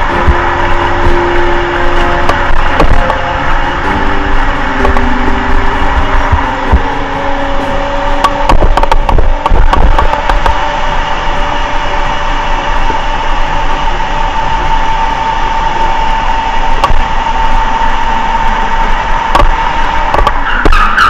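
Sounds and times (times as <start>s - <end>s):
electric motor whining: 0.0s - 20.7s
tyre and road noise: 0.0s - 21.0s.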